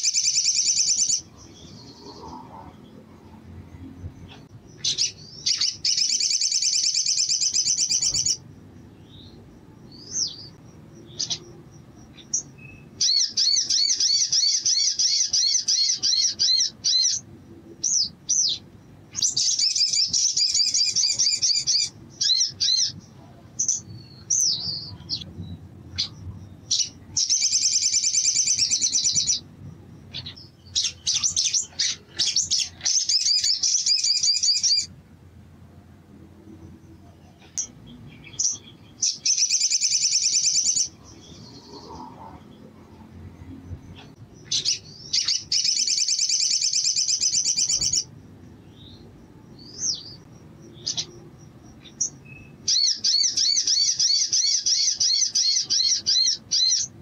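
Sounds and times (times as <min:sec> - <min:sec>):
bird chirps and calls: 0:00.0 - 0:35.0, 0:36.7 - 0:57.0
bird singing trilled phrases: 0:00.0 - 0:35.0, 0:36.8 - 0:42.7, 0:43.4 - 0:57.0.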